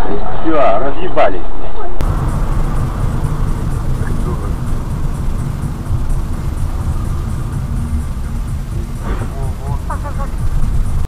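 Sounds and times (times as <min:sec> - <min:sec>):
road noise: 0:01.5 - 0:11.0
car engine rumble: 0:02.0 - 0:11.0.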